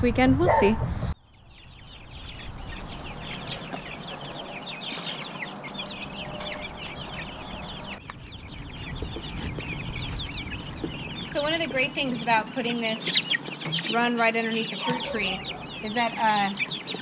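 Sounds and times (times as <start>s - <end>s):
chicks peeping: 0.4s - 17.0s.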